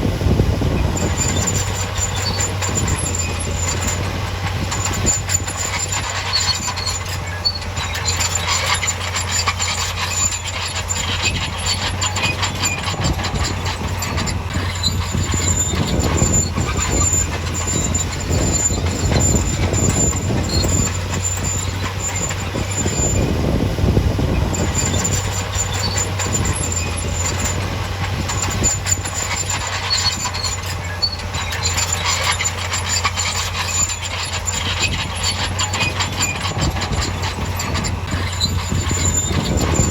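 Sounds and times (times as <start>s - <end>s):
diesel engine running: 0.0s - 39.9s
metallic clatter of tracks: 0.7s - 39.9s
thin high squeal: 0.7s - 39.9s.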